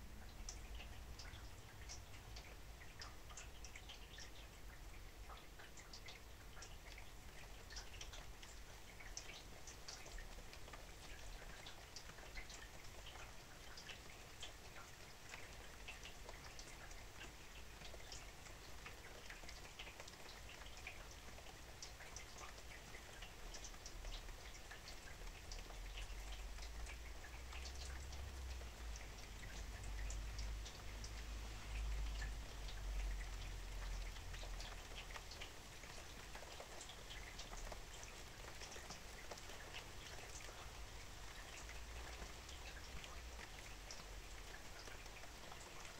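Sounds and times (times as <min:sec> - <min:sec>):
raindrops ticking: 0:00.0 - 0:45.9.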